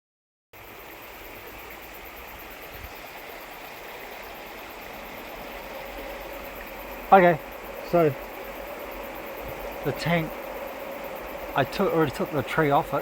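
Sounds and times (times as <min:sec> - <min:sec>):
flowing water rushing: 0:00.6 - 0:13.0.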